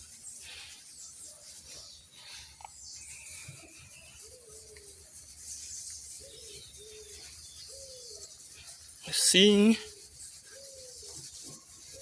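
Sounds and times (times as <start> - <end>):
bird calling in drawn-out notes: 0.0 - 12.0.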